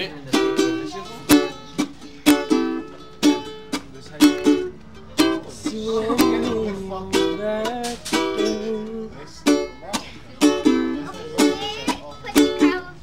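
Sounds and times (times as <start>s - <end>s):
acoustic string instrument strummed: 0.0s - 13.0s.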